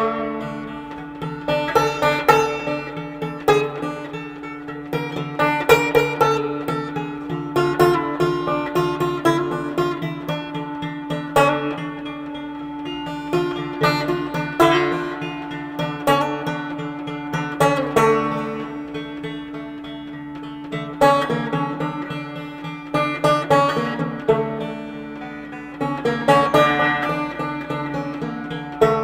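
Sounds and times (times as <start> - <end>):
plucked string music: 0.0 - 29.0.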